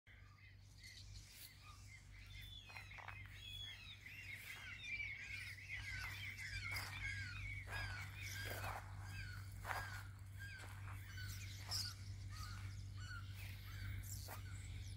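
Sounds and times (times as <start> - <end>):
birds chirping and twittering: 0.1 - 14.9
bird falling calls: 1.5 - 14.9.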